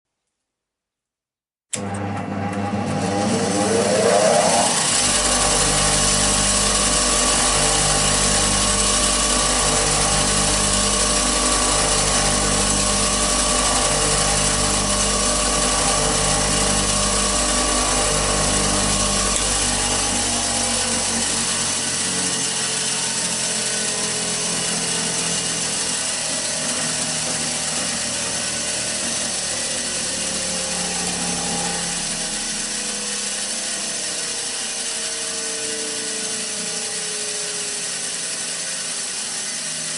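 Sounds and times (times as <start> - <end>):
bench grinder whining: 1.7 - 39.9.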